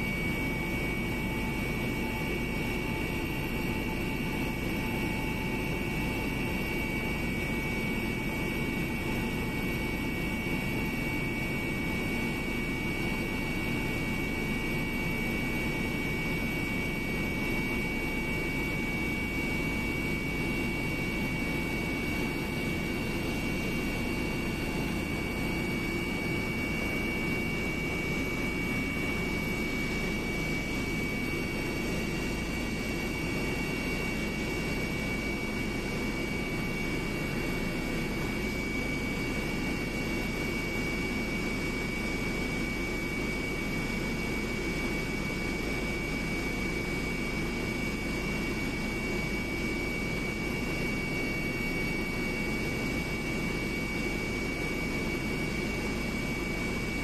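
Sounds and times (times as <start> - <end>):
airliner engines droning: 0.0 - 57.0.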